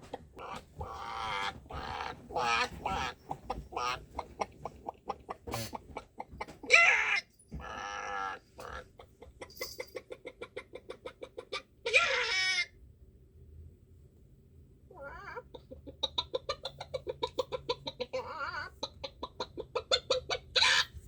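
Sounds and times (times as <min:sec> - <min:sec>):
chickens clucking: 0:00.0 - 0:12.6, 0:15.0 - 0:21.0
chicken squawking: 0:00.4 - 0:09.4, 0:10.0 - 0:12.8, 0:14.9 - 0:21.0.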